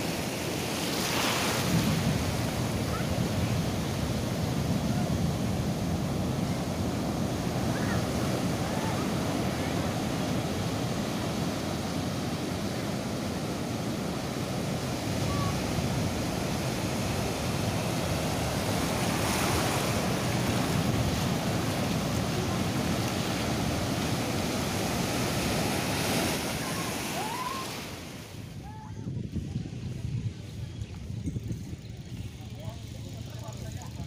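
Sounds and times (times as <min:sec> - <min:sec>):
ocean surf breaking: 0:00.0 - 0:28.7.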